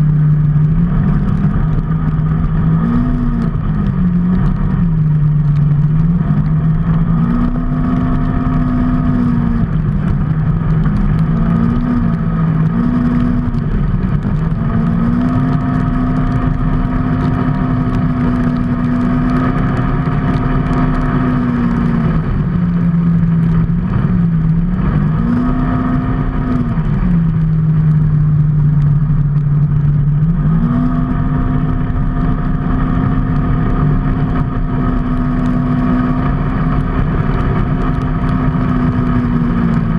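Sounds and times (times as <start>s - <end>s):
rushing road noise: 0.0s - 39.9s
vehicle engine revving: 0.0s - 39.9s.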